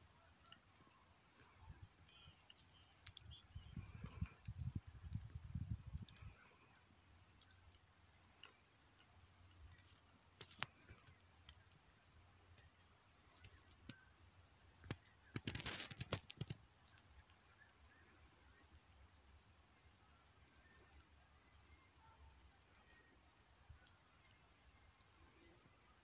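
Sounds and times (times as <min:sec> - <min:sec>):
crackling: 0:00.0 - 0:26.0
faint clicks: 0:00.0 - 0:26.0.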